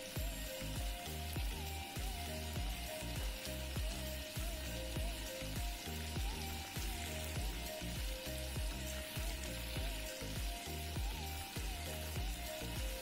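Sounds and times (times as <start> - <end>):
background music with bass beat: 0.0 - 13.0
fish deep-frying in oil: 0.0 - 13.0.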